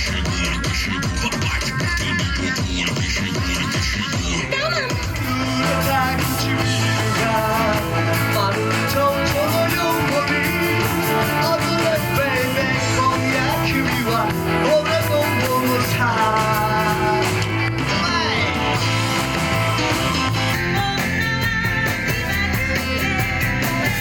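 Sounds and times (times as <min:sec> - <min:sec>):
rock music with singing: 0:00.0 - 0:24.0.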